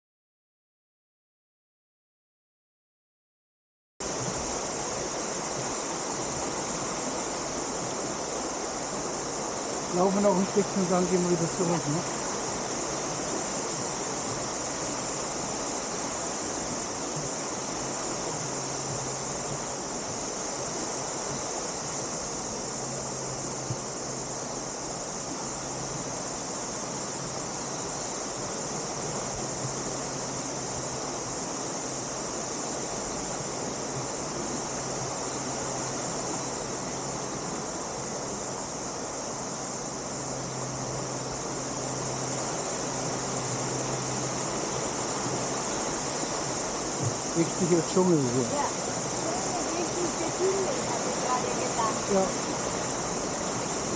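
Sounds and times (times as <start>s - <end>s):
high-pitched insect chorus: 4.0s - 53.9s
waterfall rushing: 4.0s - 53.9s.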